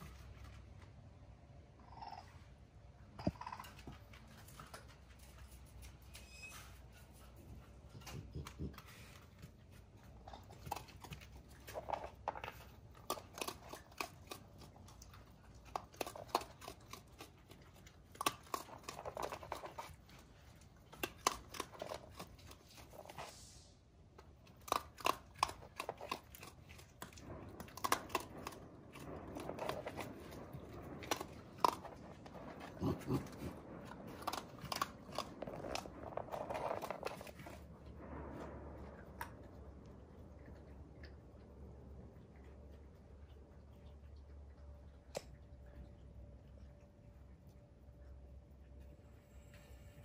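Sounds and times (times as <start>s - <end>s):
raccoon crunching food pellets: 0.0s - 50.0s.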